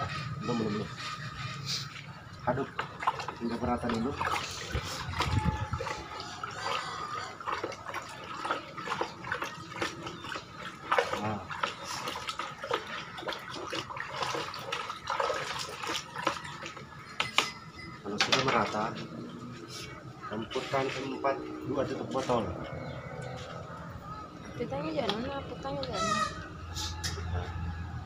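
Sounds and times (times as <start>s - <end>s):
water sloshing in a bucket: 0.0s - 28.0s.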